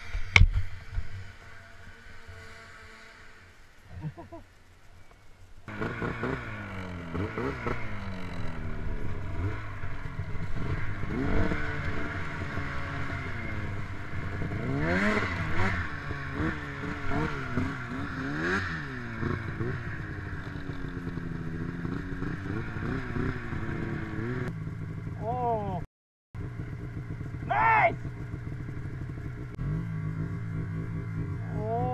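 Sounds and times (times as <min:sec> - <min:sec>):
snowmobile engine revving: 0:00.0 - 0:04.4, 0:05.7 - 0:25.8, 0:26.5 - 0:31.9.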